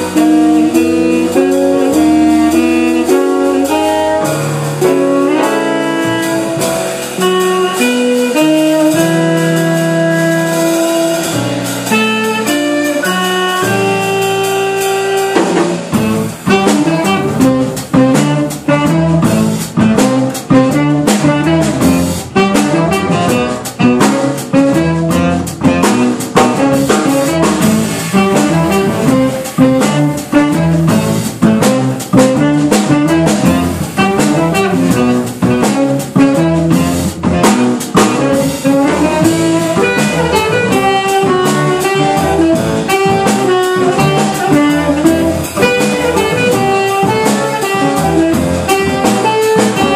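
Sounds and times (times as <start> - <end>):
drum kit swing beat: 0.0 - 49.9
saxophone: 0.0 - 49.9
upright bass: 0.0 - 49.9.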